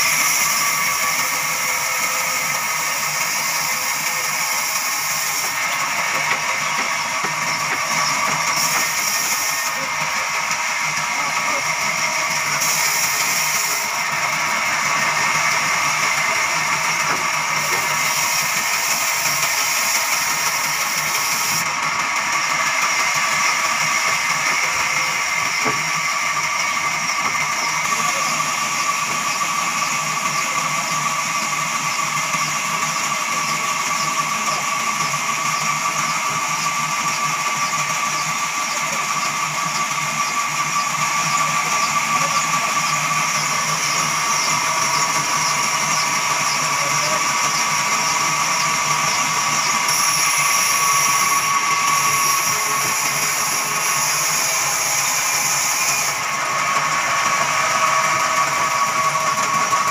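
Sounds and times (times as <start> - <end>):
band saw whining: 0.0 - 59.9.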